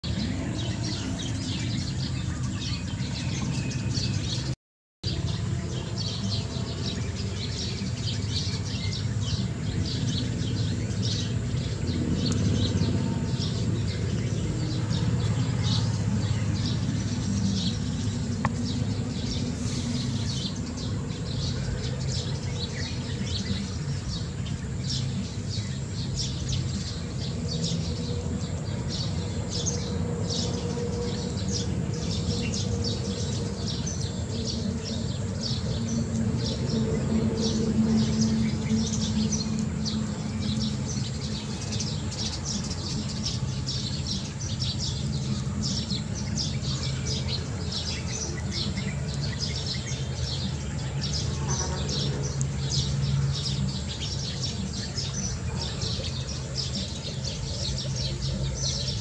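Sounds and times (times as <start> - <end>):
birds chirping: 0.0 - 59.0
steady low hum: 0.0 - 59.0.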